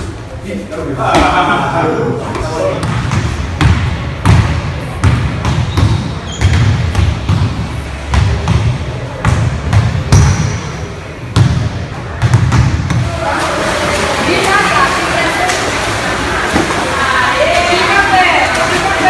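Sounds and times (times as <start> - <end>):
gym background din: 0.0 - 19.0.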